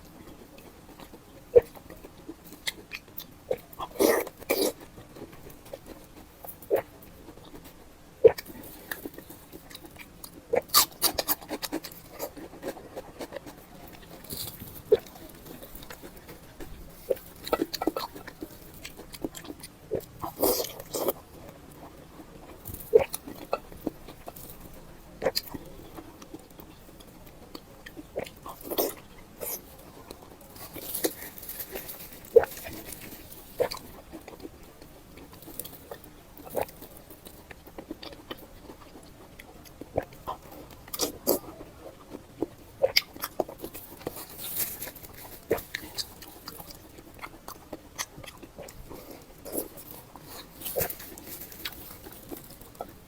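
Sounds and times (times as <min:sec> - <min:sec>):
wet chewing and lip-smacking: 0:00.0 - 0:53.0.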